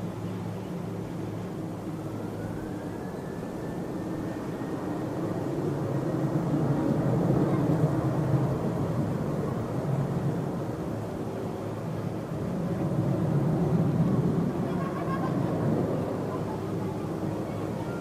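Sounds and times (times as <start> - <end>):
faint rising whine: 0.0 - 14.7
distant jet engines roaring: 0.0 - 18.0.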